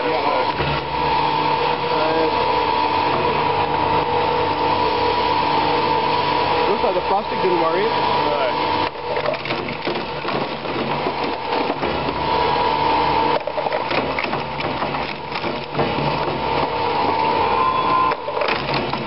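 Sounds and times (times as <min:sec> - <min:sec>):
shredder crunching hard drives: 0:00.0 - 0:19.0
steady machine whine: 0:00.0 - 0:19.0.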